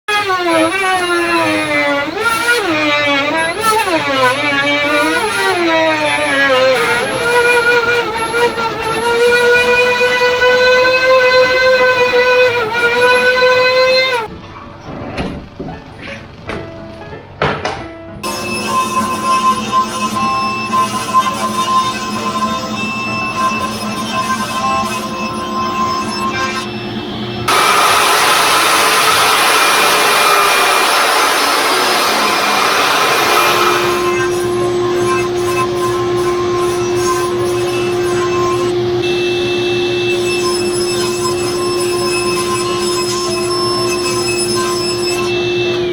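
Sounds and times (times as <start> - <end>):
trim router whining: 0.0 - 14.3, 18.2 - 45.9.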